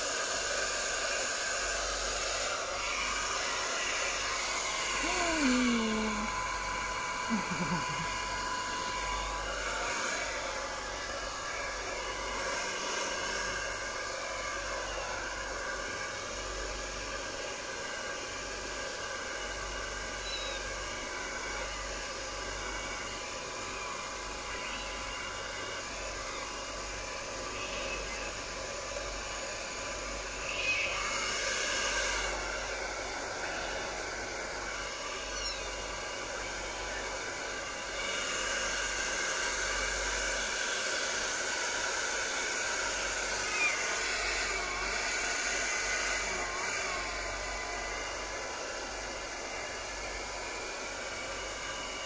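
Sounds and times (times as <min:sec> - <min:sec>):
hair dryer whirring: 0:00.0 - 0:52.0.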